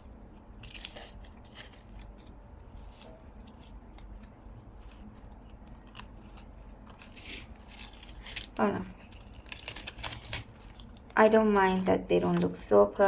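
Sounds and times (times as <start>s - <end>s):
paper rustling: 0.6s - 12.0s.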